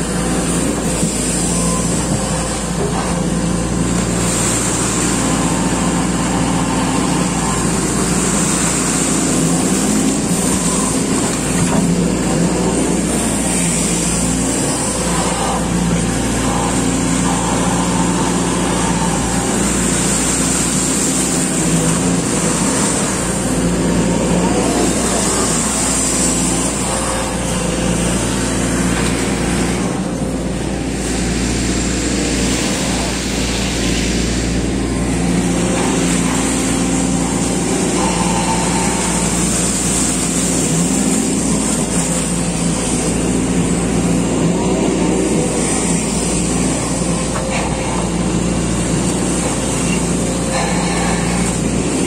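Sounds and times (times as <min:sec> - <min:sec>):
excavator diesel engine under load: 0:00.0 - 0:52.0.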